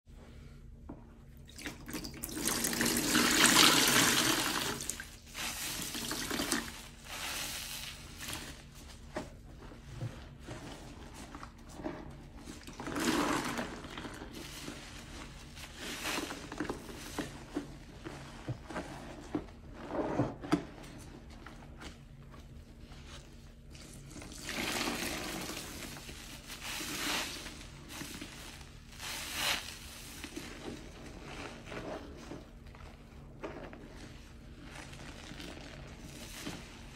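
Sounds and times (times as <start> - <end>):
sponge squelching and sloshing: 1.4 - 36.9.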